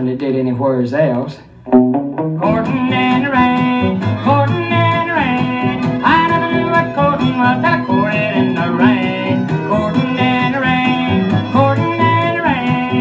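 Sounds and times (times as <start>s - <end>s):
guitar: 0.0s - 13.0s
fiddle sliding between notes: 2.5s - 13.0s.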